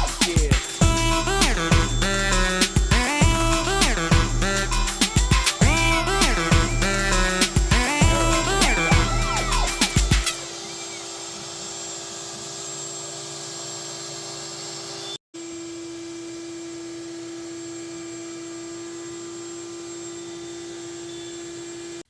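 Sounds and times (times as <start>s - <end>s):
high-speed electric motor whine: 0.0s - 22.0s.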